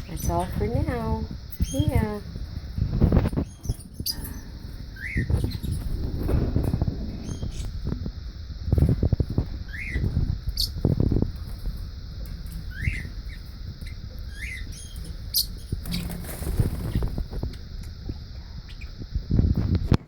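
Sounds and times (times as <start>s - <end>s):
birds chirping: 0.0s - 19.0s
wings fluttering: 0.0s - 20.0s.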